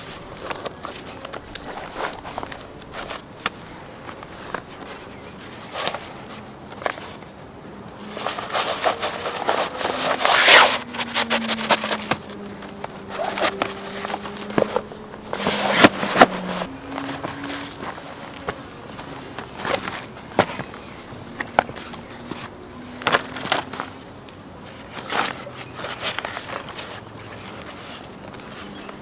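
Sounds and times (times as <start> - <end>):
scraping rush: 0.0 - 28.8.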